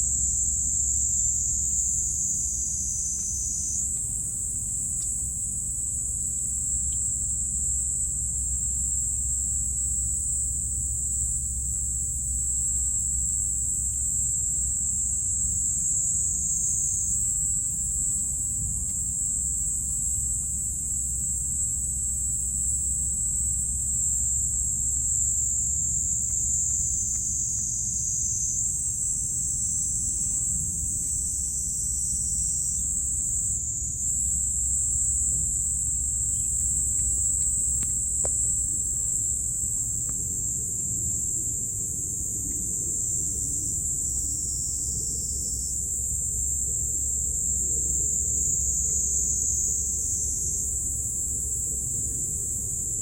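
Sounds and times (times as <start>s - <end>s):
crickets trilling: 0.0s - 53.0s
steady low rumble: 0.0s - 53.0s.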